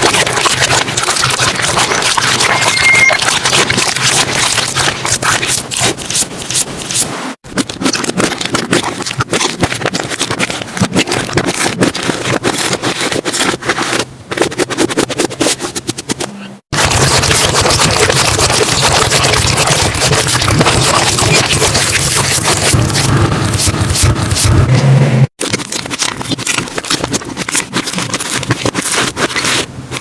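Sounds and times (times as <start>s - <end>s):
slime squelching crackles: 0.0s - 15.5s, 16.8s - 24.5s, 25.4s - 30.0s.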